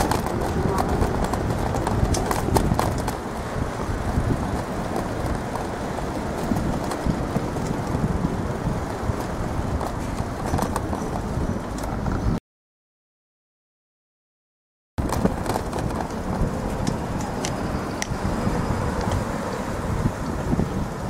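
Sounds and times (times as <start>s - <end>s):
camera rattling on bicycle: 0.0s - 12.4s, 15.0s - 21.0s
low road rumble: 0.0s - 12.4s, 15.0s - 21.0s.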